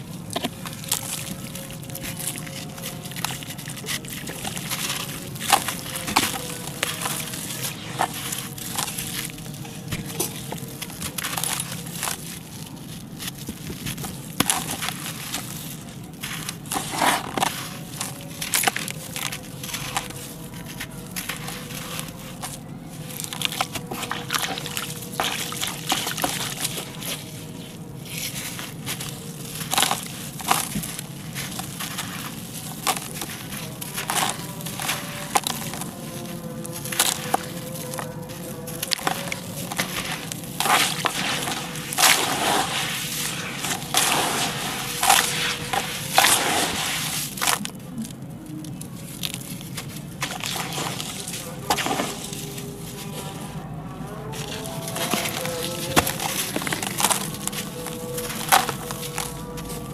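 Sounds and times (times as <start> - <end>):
hands crushing concrete lumps: 0.0 - 59.9
wet squelching and sloshing: 0.0 - 59.9.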